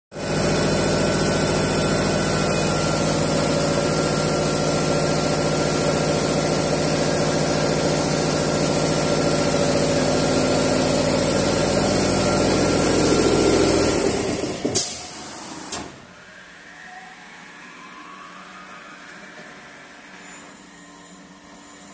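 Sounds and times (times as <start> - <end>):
machine humming with high hiss: 0.2 - 21.9.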